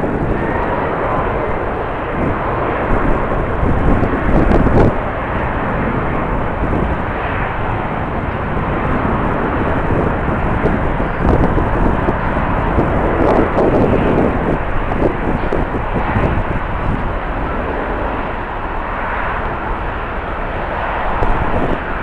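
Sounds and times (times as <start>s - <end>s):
jet engines running: 0.0s - 22.0s
wind buffeting the microphone: 0.0s - 22.0s.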